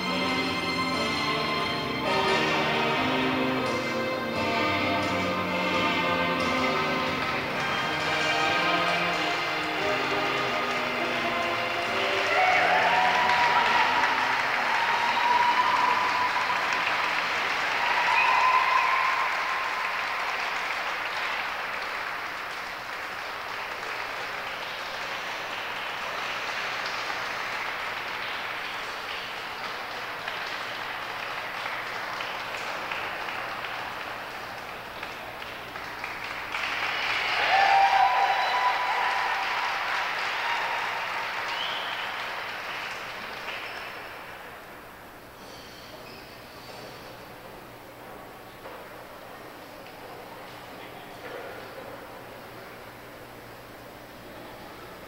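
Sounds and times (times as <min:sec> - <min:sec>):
audience applauding: 0:00.0 - 0:45.4.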